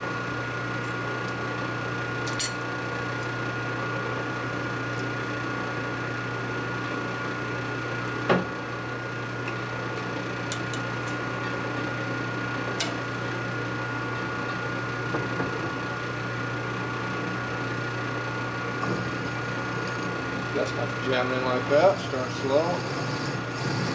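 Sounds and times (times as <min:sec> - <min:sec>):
shop machinery motor hum: 0:00.0 - 0:23.9.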